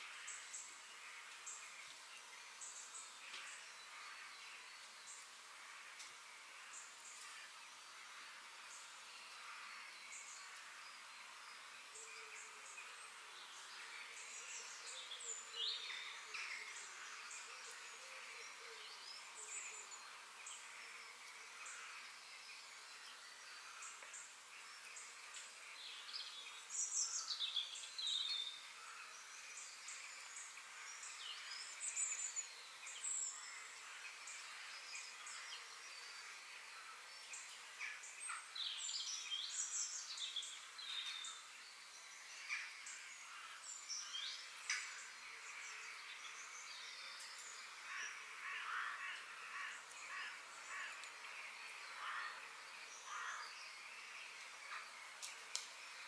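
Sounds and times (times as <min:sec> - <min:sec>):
faint steady background hiss: 0:00.0 - 0:56.0.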